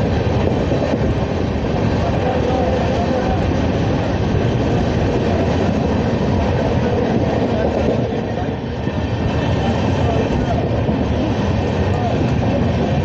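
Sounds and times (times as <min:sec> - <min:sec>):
train coach rattling: 0:00.0 - 0:13.0
train wheels on rails: 0:00.0 - 0:13.0.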